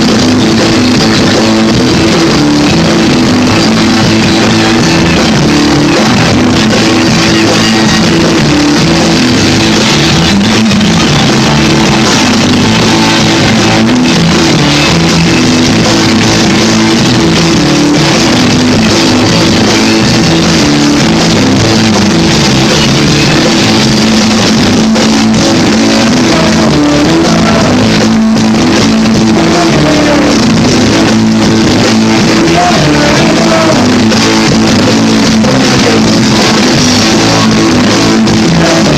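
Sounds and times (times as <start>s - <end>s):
loud rock music: 0.0s - 38.9s
sliding guitar notes: 0.0s - 38.9s.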